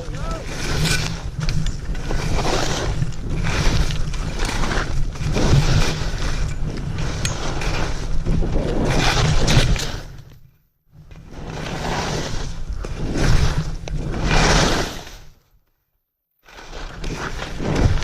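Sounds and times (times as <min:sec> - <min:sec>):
skis scraping on snow: 0:00.0 - 0:10.2, 0:11.1 - 0:15.4, 0:16.4 - 0:18.0.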